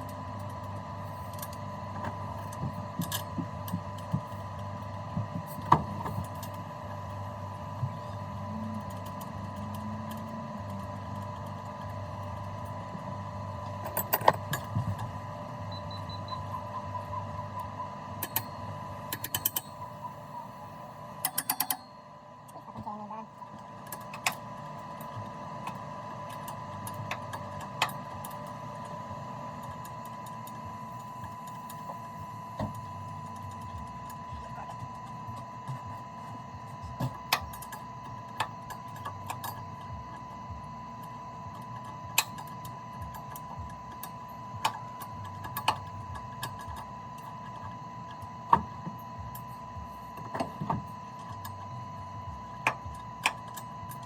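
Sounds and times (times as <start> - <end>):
low hum: 0.0 - 24.1, 24.8 - 54.0
high-pitched whine: 0.0 - 54.0.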